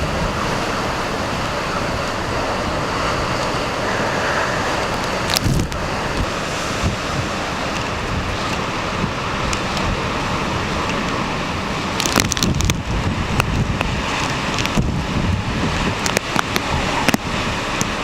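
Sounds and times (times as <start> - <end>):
rain hitting microphone: 0.0 - 18.0
strong wind: 0.0 - 18.0
surf rushing: 0.0 - 18.0.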